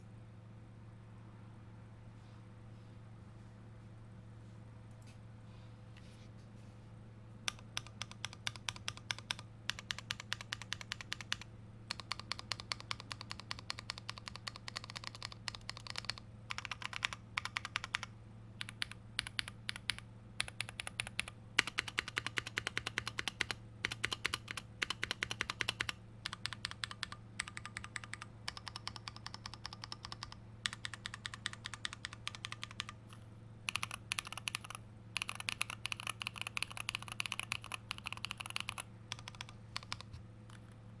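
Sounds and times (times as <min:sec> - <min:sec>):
steady low hum: 0:00.0 - 0:41.0
mechanical keyboard typing: 0:07.5 - 0:40.7.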